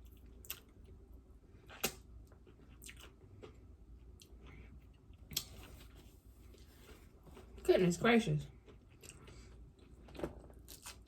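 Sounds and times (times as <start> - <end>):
person chewing crunchy tostada: 0.0 - 7.7, 8.5 - 11.0.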